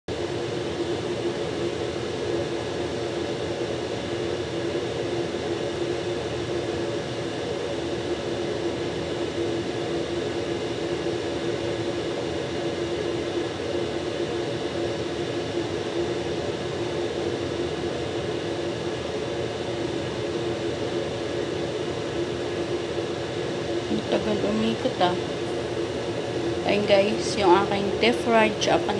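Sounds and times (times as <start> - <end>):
fan motor whirring hum: 0.1 - 28.9.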